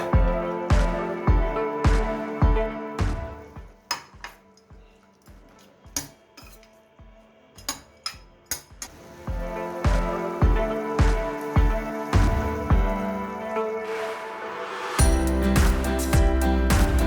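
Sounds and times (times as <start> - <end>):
background music with beat: 0.0 - 17.0.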